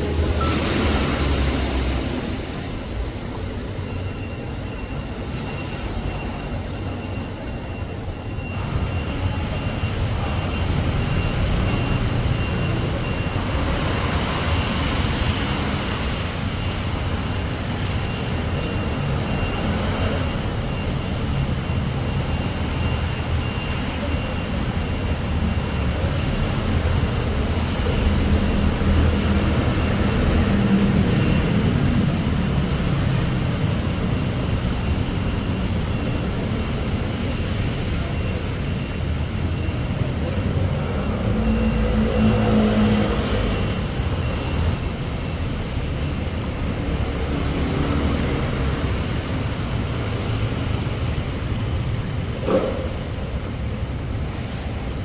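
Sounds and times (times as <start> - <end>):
stormy wind: 0.0 - 55.0.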